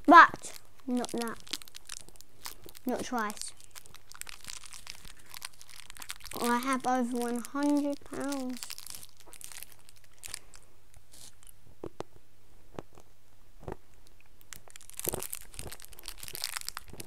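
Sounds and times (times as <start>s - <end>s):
packaging crinkling: 0.0s - 11.6s, 14.4s - 17.0s.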